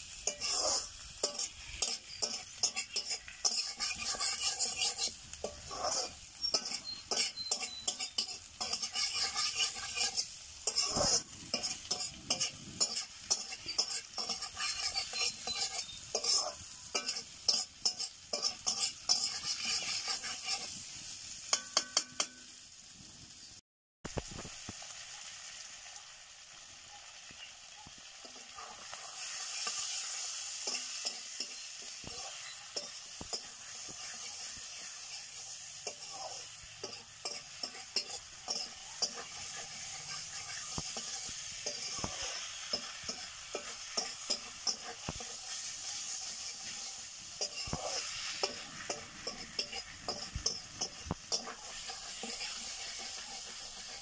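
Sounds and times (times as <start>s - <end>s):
chicken sizzling in pan: 0.0s - 54.0s
spatula scraping metal pan: 0.1s - 22.5s, 28.2s - 54.0s.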